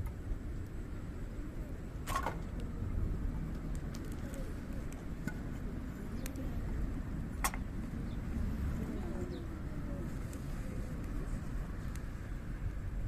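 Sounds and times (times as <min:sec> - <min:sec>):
campfire rumbling and crackling: 0:00.0 - 0:13.0.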